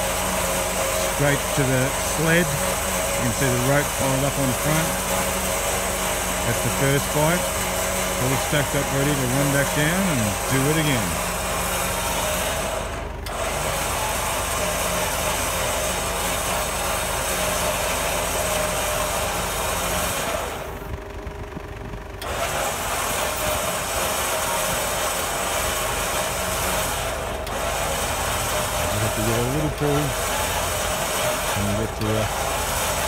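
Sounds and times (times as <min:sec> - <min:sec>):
car engine running: 0:00.0 - 0:12.2, 0:15.4 - 0:33.0
winch reeling in cable: 0:00.0 - 0:20.7, 0:22.0 - 0:33.0.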